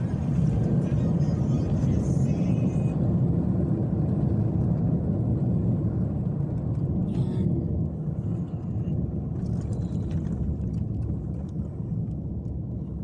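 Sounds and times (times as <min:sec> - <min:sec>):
car interior road and engine rumble: 0:00.0 - 0:13.0.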